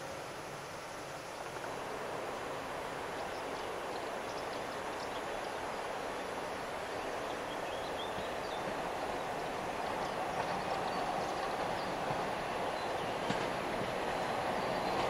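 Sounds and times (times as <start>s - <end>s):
train running slowly: 0.0s - 15.0s.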